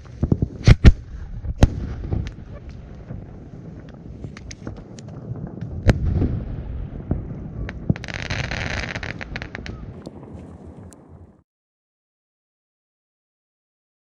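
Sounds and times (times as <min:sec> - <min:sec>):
firework cracks and pops: 0:00.0 - 0:11.3
hissing rush with crackles: 0:00.0 - 0:11.4.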